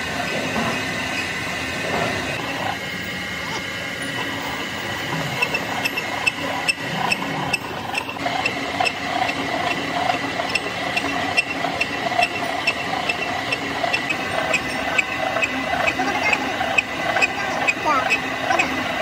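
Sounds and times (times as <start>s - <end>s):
end mill cutting metal: 0.0s - 19.0s.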